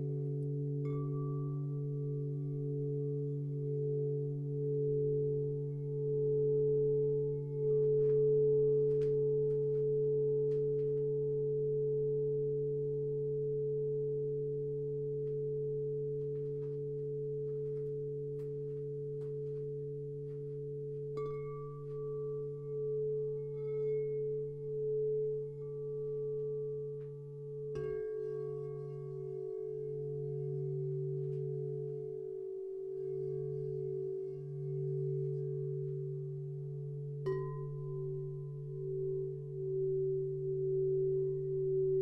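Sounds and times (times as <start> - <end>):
pulsing singing bowl tone: 0.0 - 42.0
singing bowls ringing: 0.0 - 42.0.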